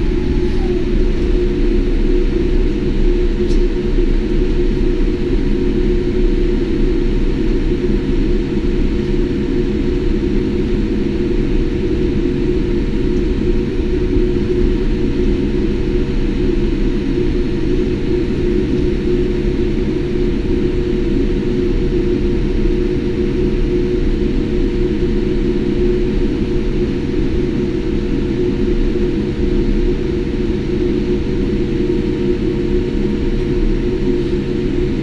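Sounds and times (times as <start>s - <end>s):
aircraft engines idling: 0.0s - 35.0s.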